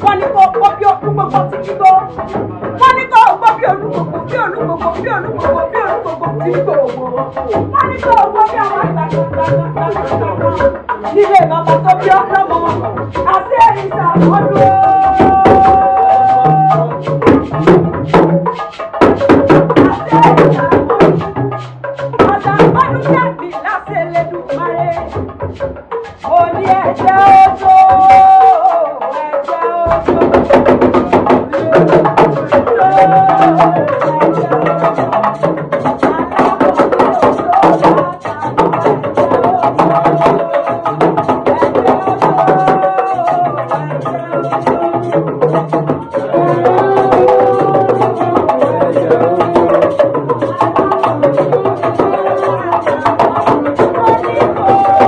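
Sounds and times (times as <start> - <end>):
drums and percussion: 0.0 - 55.0
melodic instrument notes: 0.0 - 55.0.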